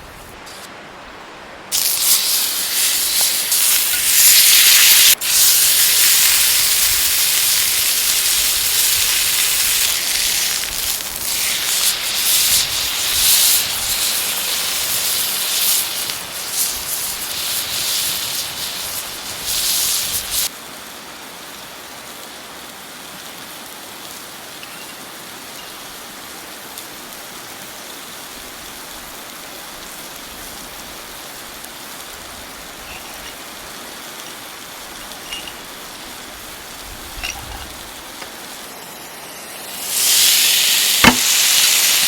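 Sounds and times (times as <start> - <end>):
steak sizzling on griddle: 1.7 - 20.6, 23.4 - 42.0.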